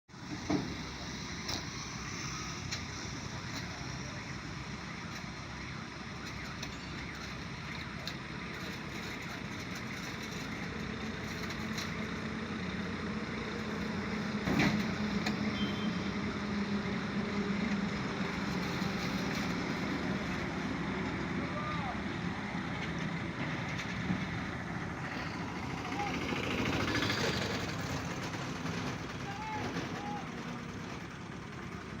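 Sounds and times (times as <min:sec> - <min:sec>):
roadway noise: 0:00.1 - 0:32.0
truck engine running: 0:00.1 - 0:32.0.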